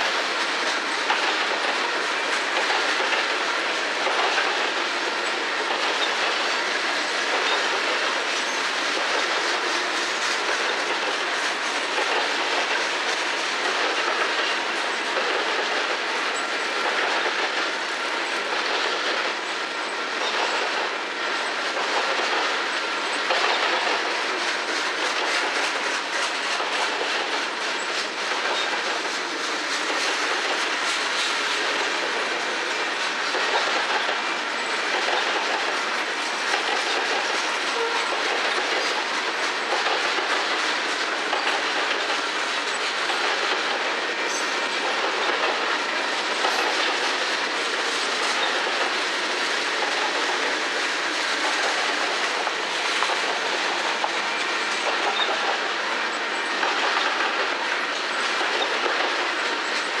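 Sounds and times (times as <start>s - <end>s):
train wheels clickety-clack: 0.0s - 60.0s.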